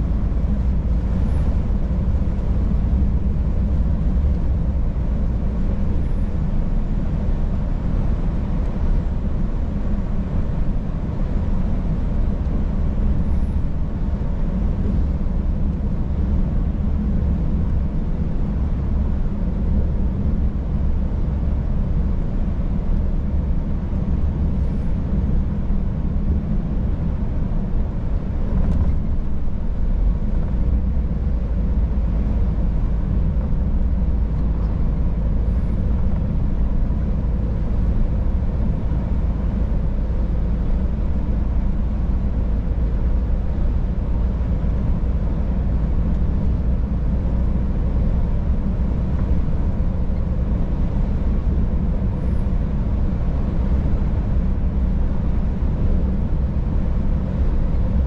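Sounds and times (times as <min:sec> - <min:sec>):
road noise: 0:00.0 - 0:58.0
truck engine rumbling: 0:00.0 - 0:58.0.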